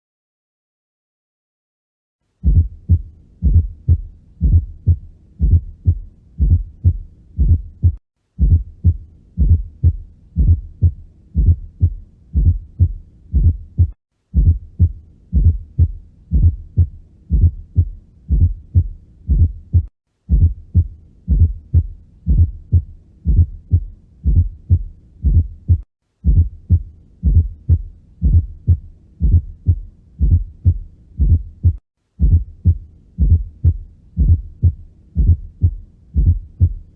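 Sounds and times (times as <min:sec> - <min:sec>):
heartbeat through stethoscope: 0:02.4 - 0:36.9
low heart thud: 0:02.4 - 0:36.9.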